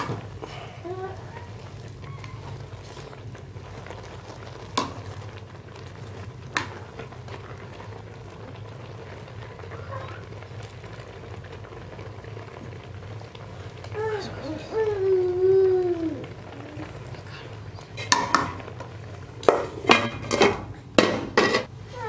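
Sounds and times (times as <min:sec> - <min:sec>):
pot boiling and bubbling: 0:00.0 - 0:22.0.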